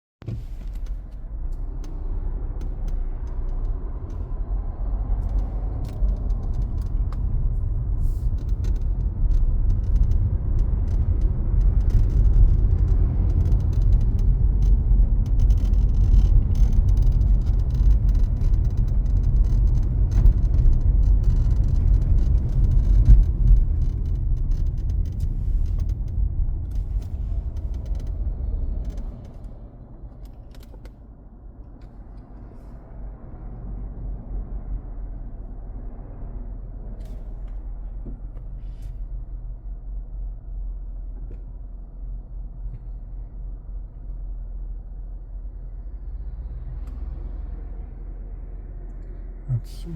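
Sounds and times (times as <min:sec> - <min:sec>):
creaks and clicks around windshield: 0:00.2 - 0:49.9
road and tyre rumble: 0:00.2 - 0:49.9.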